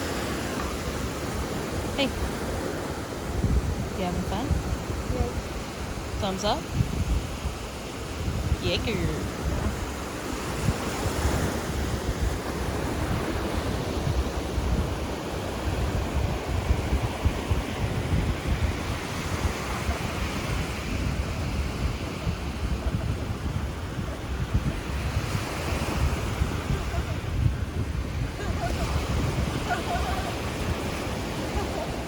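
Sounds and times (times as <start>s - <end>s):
ocean surf washing onto beach: 0.0s - 32.0s
wind buffeting microphone: 0.0s - 32.0s.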